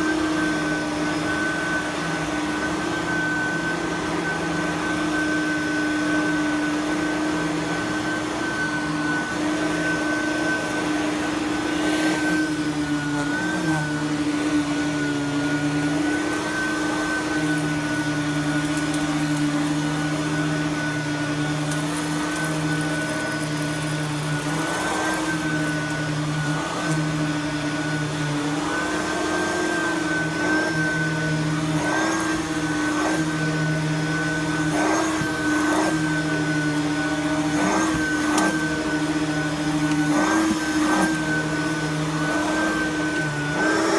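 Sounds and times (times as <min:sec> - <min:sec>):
upright vacuum running on carpet: 0:00.0 - 0:43.9.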